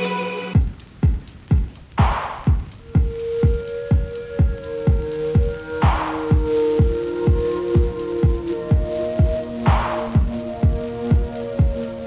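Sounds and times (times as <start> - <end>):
kick drum beat: 0.6 - 12.0
held synth notes: 2.0 - 12.0.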